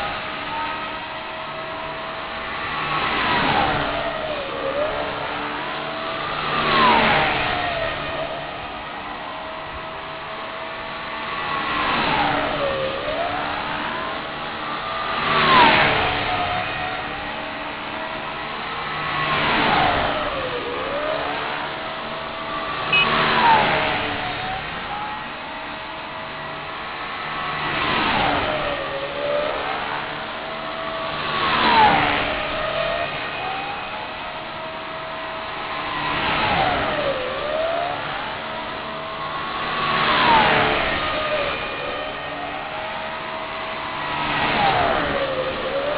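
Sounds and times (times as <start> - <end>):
rc helicopter rotor whine: 0.0 - 45.9.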